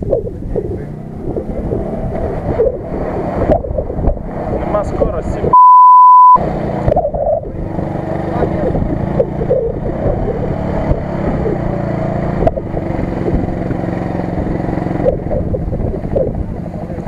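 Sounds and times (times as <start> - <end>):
buggy churning through mud and water: 0.0 - 5.6, 6.4 - 17.0
buggy engine running under load: 0.0 - 5.6, 6.4 - 17.0.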